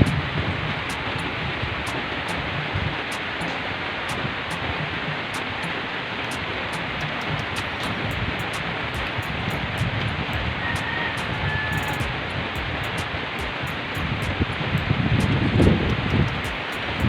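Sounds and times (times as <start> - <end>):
strong wind rushing: 0.0 - 17.0.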